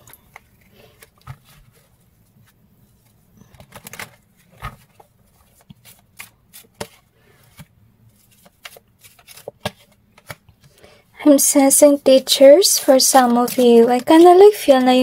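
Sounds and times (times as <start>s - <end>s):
cards being shuffled: 0.0s - 10.8s, 12.9s - 15.0s.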